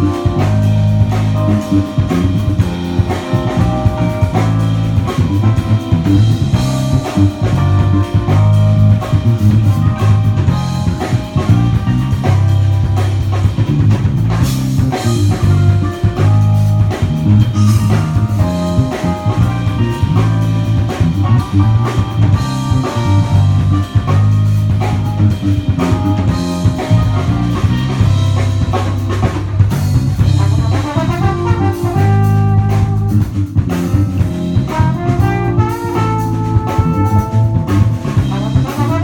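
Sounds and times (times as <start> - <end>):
band playing: 0.0 - 39.0
steady bass line: 0.0 - 39.0.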